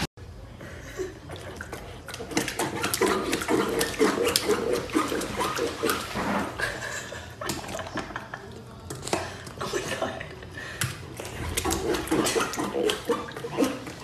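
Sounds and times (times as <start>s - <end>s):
puppy slurping from bowl: 1.1s - 14.0s.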